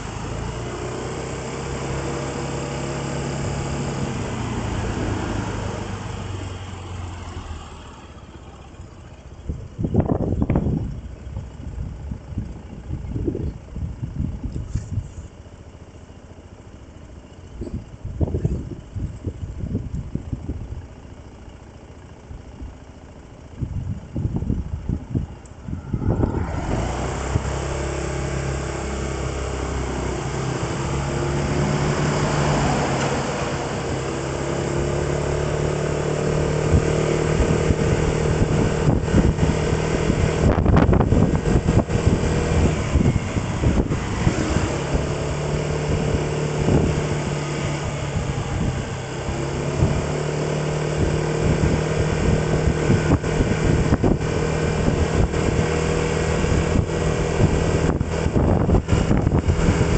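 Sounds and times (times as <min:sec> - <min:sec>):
road and wind noise: 0:00.0 - 0:59.9
vehicle engine running: 0:00.0 - 0:59.9.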